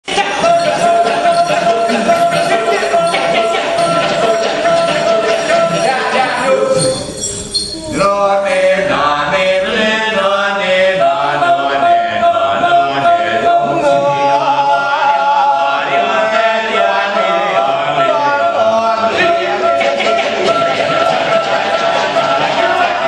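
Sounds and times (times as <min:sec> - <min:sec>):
chorus of men chanting: 0:00.1 - 0:07.0, 0:08.0 - 0:23.0.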